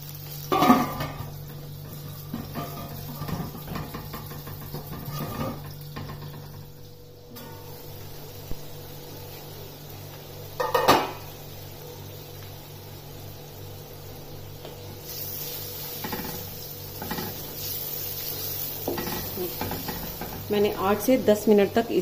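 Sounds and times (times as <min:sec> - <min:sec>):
masala sizzling in a pot: 0:00.0 - 0:22.0.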